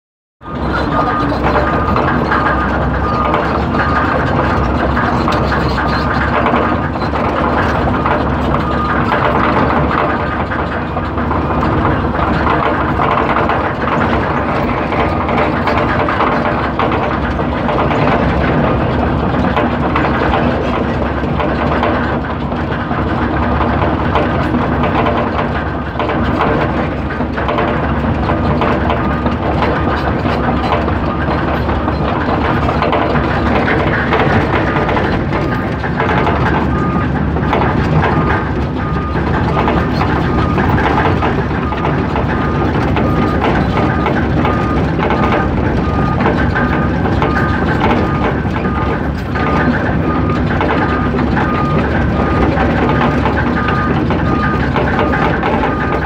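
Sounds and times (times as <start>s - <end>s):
excavator diesel engine running: 0.4s - 56.0s.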